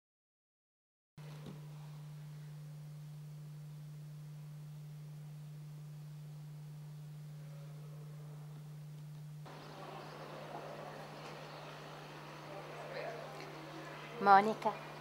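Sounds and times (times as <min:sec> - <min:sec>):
low electrical hum: 0:01.2 - 0:15.0.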